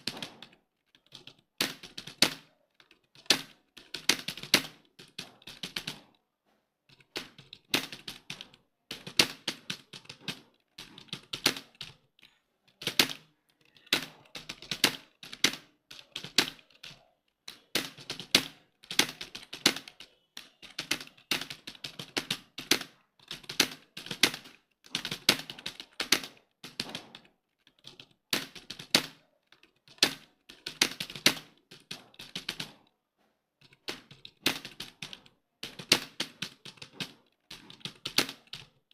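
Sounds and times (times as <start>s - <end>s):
computer keyboard typing: 0.0s - 33.0s, 33.6s - 38.9s.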